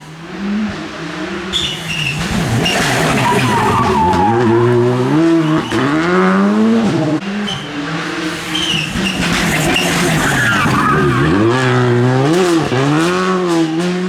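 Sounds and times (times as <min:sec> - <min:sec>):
rally car engine revving: 0:00.0 - 0:14.0
tyres sliding on road: 0:00.0 - 0:14.0.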